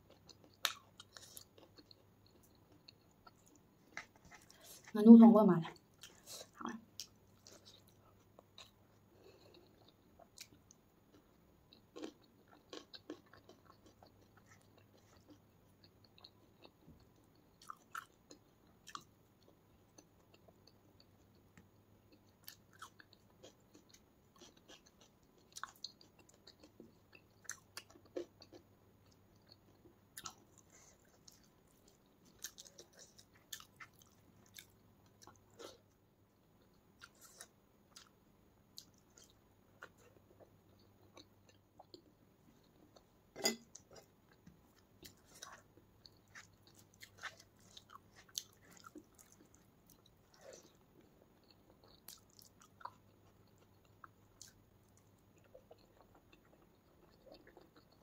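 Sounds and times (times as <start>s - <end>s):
person chewing: 0.1s - 4.9s, 5.9s - 36.0s, 36.6s - 38.2s, 38.8s - 58.0s.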